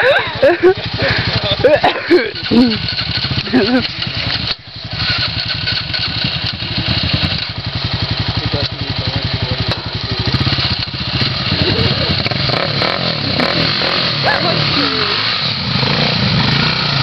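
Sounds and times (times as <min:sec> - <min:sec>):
engine puttering at low revs: 0:00.0 - 0:17.0.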